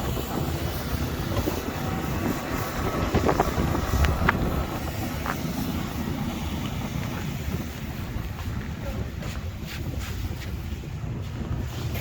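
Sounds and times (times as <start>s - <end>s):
city traffic rumble: 0.0s - 12.0s
wind buffeting microphone: 0.0s - 12.0s.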